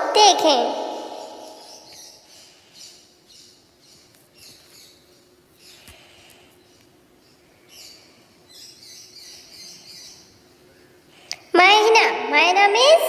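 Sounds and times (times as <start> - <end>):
low ambient noise: 0.0 - 13.0
small birds chirping: 0.2 - 12.1.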